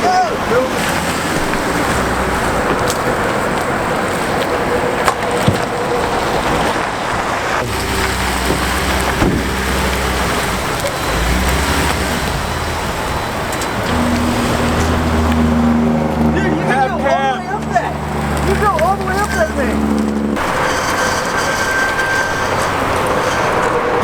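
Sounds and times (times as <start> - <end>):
low engine hum: 0.0 - 24.0
road noise: 0.0 - 24.0.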